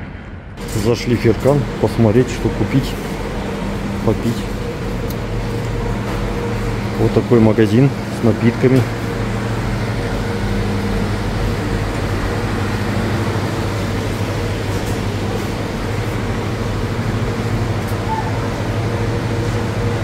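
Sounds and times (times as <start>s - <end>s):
refrigeration machine hum: 0.0s - 20.0s
steady low tones: 0.0s - 20.0s.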